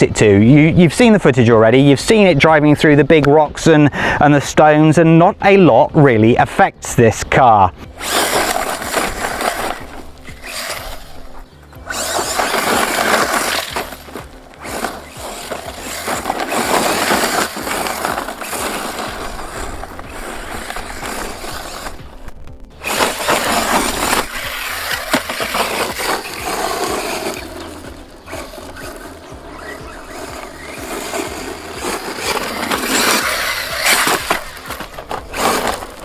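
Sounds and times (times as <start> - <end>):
rc car driving over gravel: 0.0 - 36.0.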